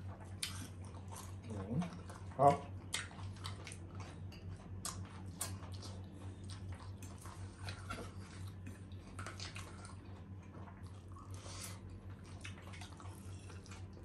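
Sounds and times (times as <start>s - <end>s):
chewing and mouth noises: 0.0s - 14.0s
low steady hum: 0.0s - 14.0s.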